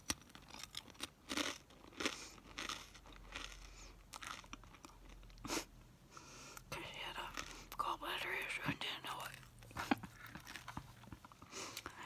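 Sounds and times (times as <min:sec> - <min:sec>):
chewing crunchy food: 0:00.0 - 0:05.5, 0:06.6 - 0:08.6, 0:09.3 - 0:11.9.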